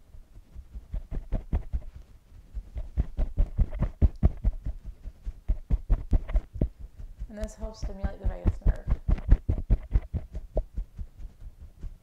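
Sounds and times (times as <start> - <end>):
fingertips tapping on collarbones: 0.0 - 12.0.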